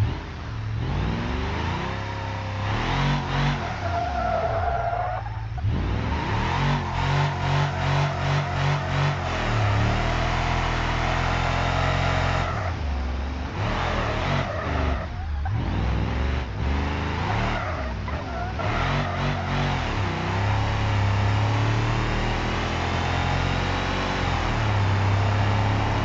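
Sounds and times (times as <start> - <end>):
engine running and revving: 0.0 - 26.0.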